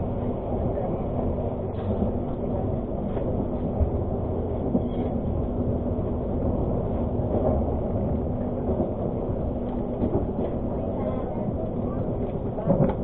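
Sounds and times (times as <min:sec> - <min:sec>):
constant hum: 0:00.0 - 0:13.0
train coach rumbling: 0:00.0 - 0:13.0.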